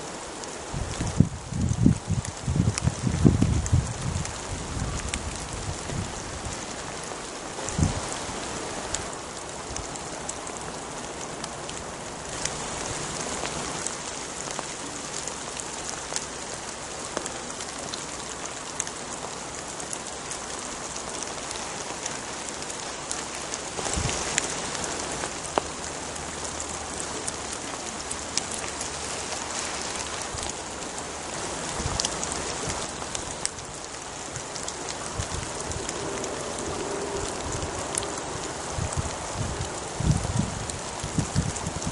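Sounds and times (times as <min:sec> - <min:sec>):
rain falling on woodland: 0:00.0 - 0:41.9.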